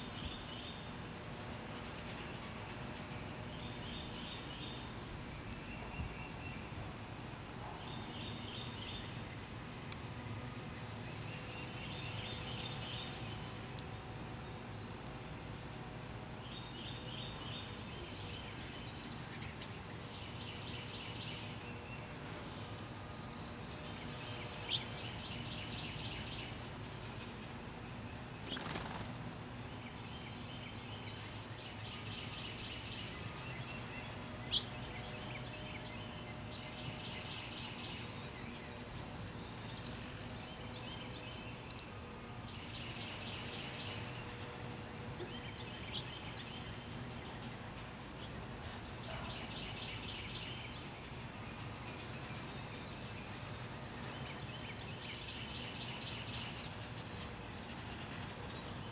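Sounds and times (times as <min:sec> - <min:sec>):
low background hum: 0:00.0 - 0:58.9.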